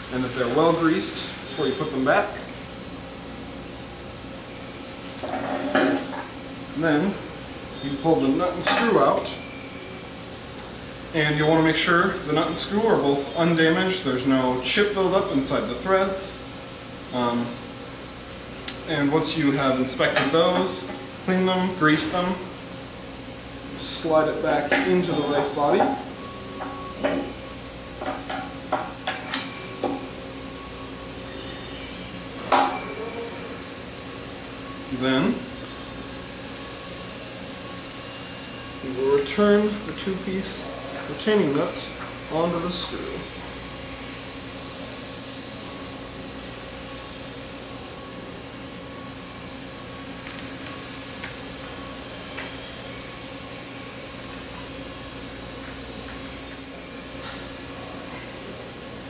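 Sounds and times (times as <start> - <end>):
workshop background hum: 0.0 - 59.0.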